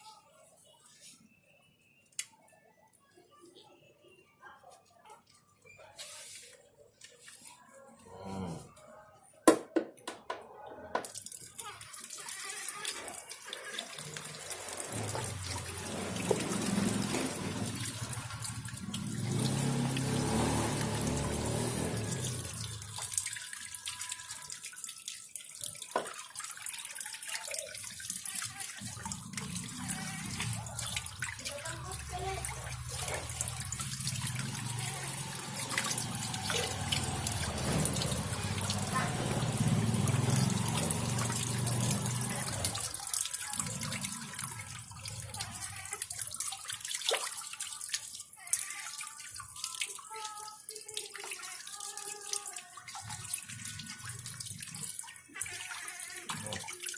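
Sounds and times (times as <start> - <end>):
water running from a tap: 11.0 - 56.9.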